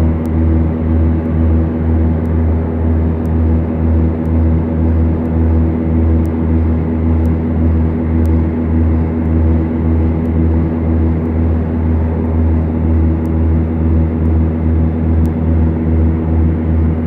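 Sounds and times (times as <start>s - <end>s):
aircraft engine and propeller drone: 0.0s - 17.0s.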